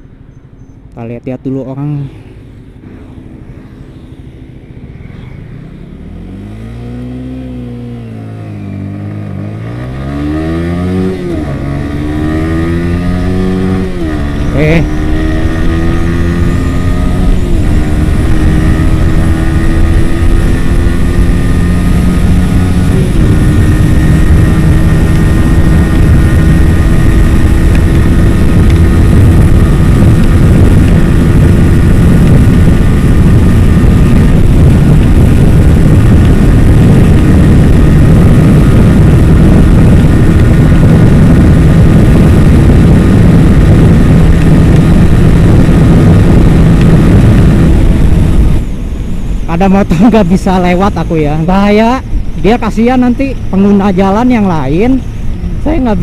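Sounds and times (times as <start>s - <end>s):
wind rushing over microphone: 0.0s - 56.0s
motorcycle engine revving high: 1.7s - 56.0s.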